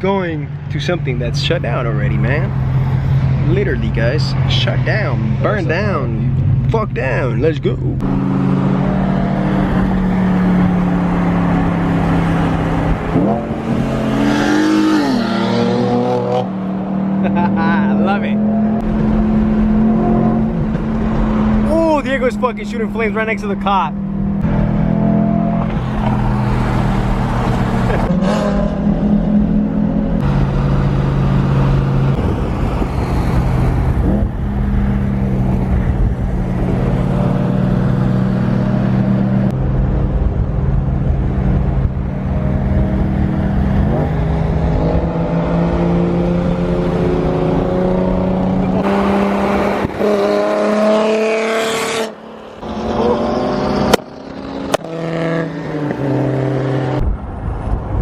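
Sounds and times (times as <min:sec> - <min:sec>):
car engines revving: 0:00.0 - 0:58.0
cars driving past: 0:08.0 - 0:58.0.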